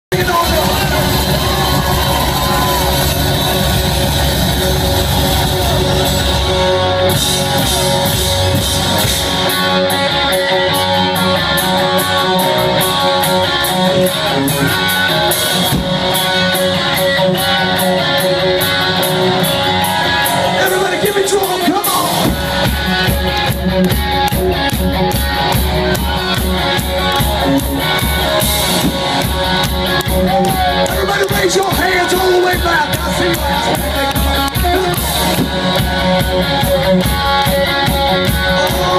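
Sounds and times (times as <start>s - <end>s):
live rock band playing: 0.1s - 38.9s.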